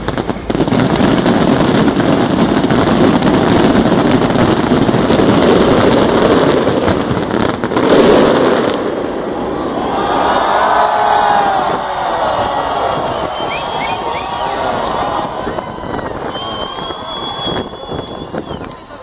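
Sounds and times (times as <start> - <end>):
fireworks bursts and crackles: 0.0 - 19.0.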